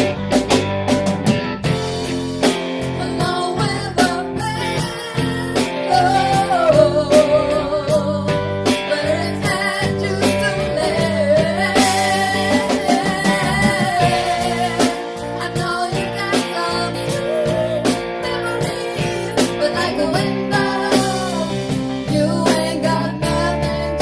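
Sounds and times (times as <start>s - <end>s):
drum kit: 0.0s - 24.0s
electric guitar: 0.0s - 24.0s.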